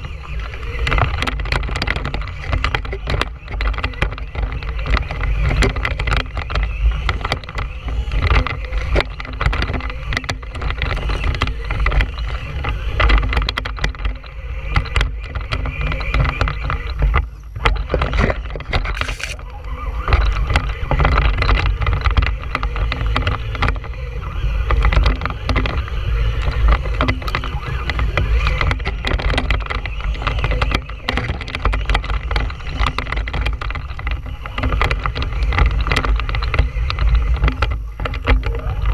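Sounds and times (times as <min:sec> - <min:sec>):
toy truck low rumble: 0:00.0 - 0:38.9.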